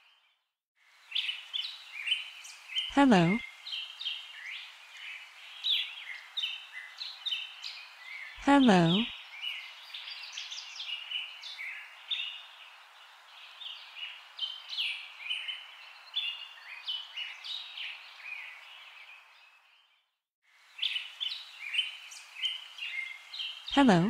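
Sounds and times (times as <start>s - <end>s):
small birds chirping: 1.0s - 20.0s, 20.7s - 24.0s.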